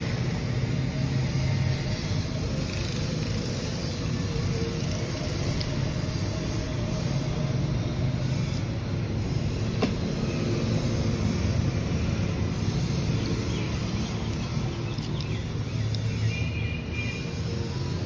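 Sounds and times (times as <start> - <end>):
motor vehicles rumbling: 0.0 - 18.0.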